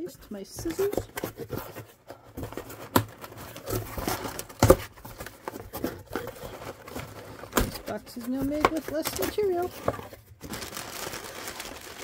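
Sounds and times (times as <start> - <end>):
cardboard scraping and rustling: 0.2 - 12.0.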